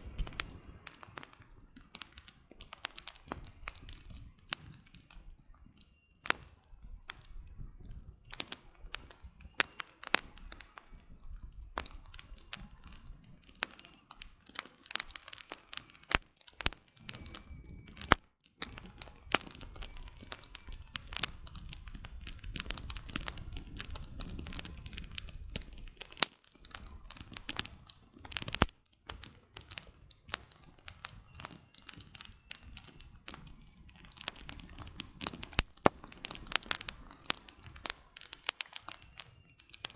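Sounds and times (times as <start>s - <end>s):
campfire crackling and popping: 0.0s - 39.9s
soft rush of flame: 0.0s - 39.9s.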